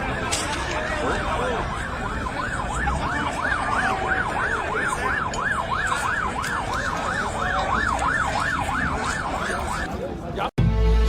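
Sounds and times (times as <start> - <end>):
ambulance siren yelping: 0.0 - 10.0
crowd noise: 0.0 - 11.0
traffic noise: 0.0 - 11.0.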